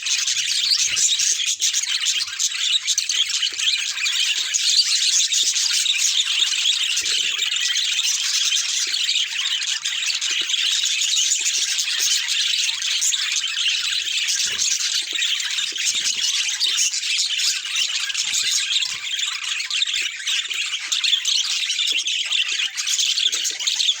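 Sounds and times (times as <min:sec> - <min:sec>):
budgerigars chattering and warbling: 0:00.0 - 0:24.0.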